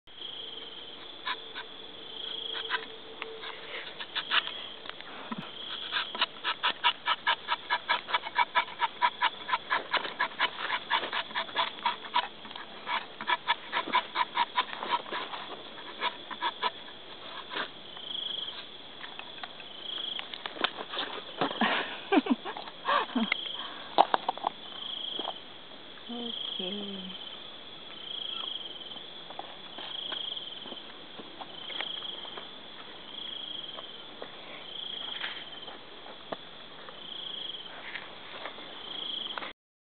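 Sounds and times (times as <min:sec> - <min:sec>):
insects and frogs trilling: 0:00.1 - 0:39.5.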